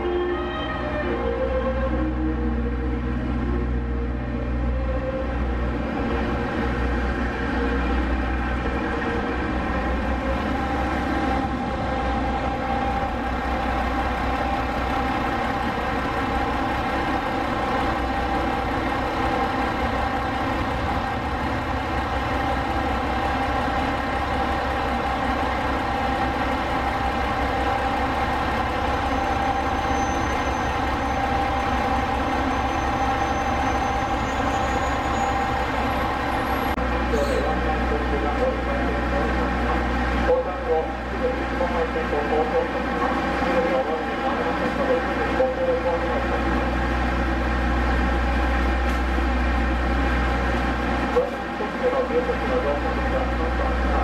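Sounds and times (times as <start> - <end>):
train engine idling: 0.0 - 54.0.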